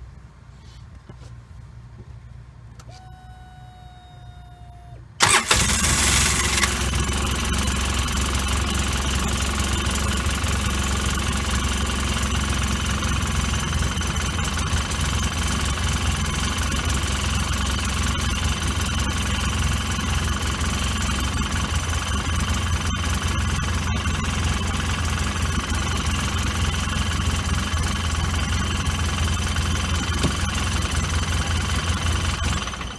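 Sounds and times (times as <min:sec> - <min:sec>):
engine idling: 0:05.2 - 0:32.9.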